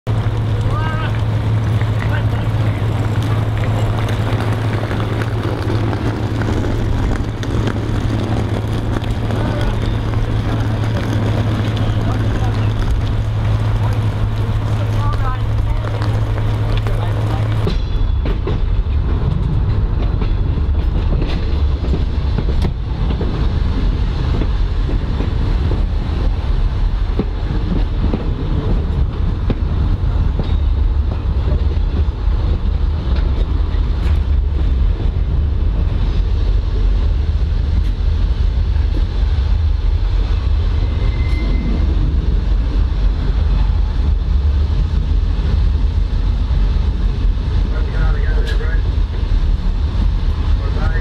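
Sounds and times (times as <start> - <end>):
train rumbling on rails: 0.0 - 51.0.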